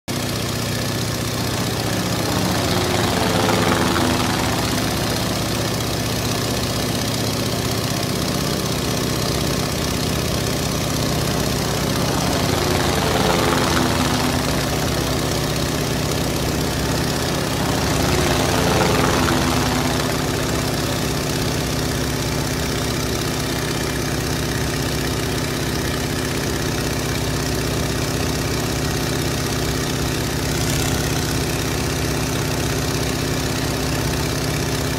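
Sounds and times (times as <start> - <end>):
aircraft engine hum: 0.1 - 34.9.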